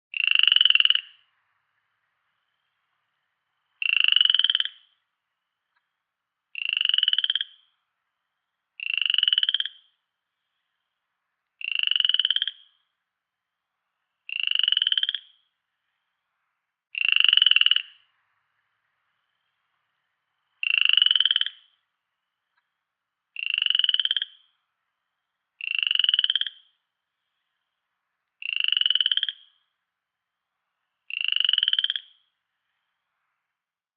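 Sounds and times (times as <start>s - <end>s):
frog croaking: 0.1s - 13.1s, 14.0s - 16.2s, 16.9s - 30.0s, 30.8s - 33.0s.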